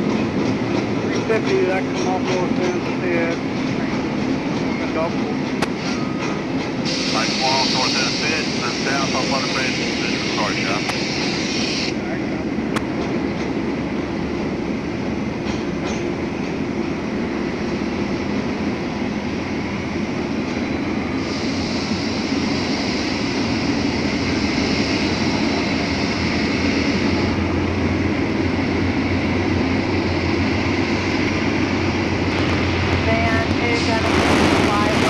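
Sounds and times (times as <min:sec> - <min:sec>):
locomotive engine drone: 0:00.0 - 0:35.0
train wheels rumbling: 0:00.0 - 0:35.0.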